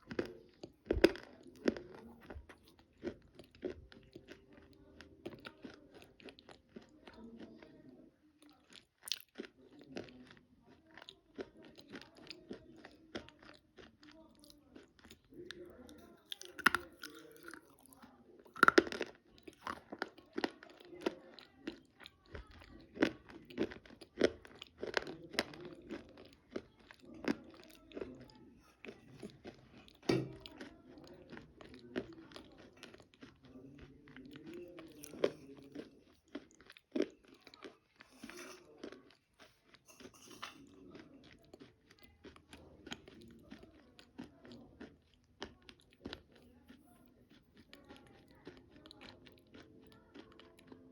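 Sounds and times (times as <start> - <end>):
crunchy chewing of chalk: 0.0 - 50.9.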